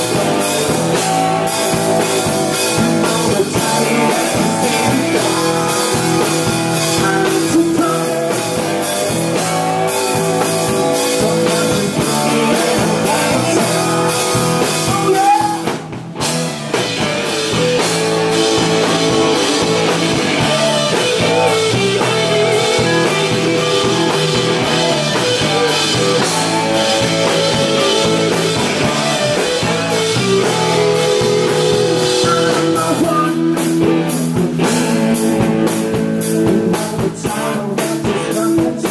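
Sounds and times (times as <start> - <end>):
live rock band playing: 0.0 - 38.9
man singing: 0.1 - 15.8, 18.3 - 29.0, 31.2 - 38.9.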